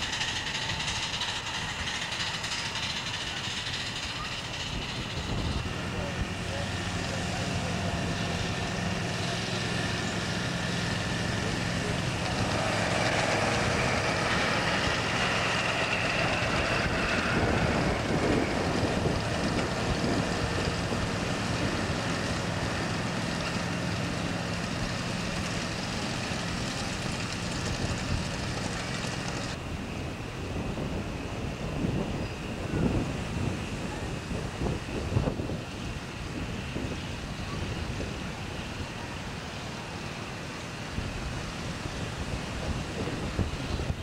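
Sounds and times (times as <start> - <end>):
miniature train running: 0.0 - 29.7, 30.7 - 44.0
wind noise: 0.0 - 44.0.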